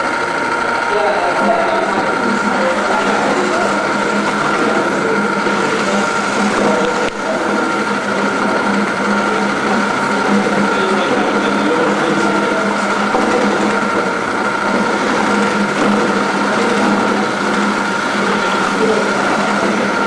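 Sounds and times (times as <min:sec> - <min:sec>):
electric motor hum and whine: 0:00.0 - 0:20.0.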